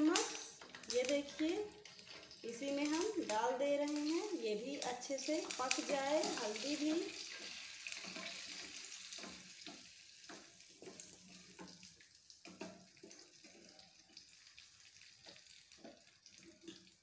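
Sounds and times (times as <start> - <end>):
spice sizzling in hot oil: 0.0 - 17.0.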